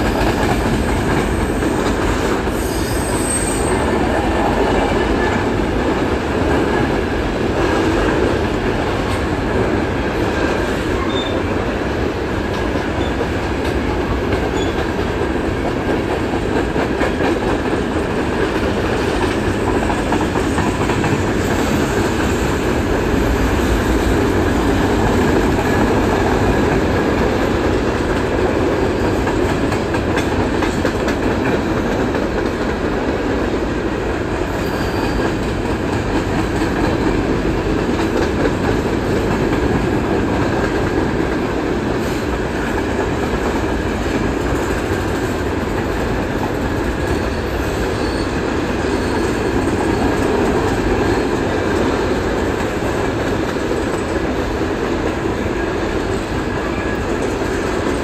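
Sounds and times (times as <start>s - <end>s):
clicks of train wheels: 0.0s - 58.0s
freight train wheels rumbling: 0.0s - 58.0s.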